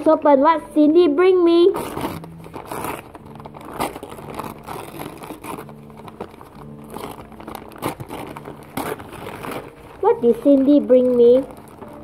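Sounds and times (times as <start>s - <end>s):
gift wrap crinkling: 1.4s - 12.0s.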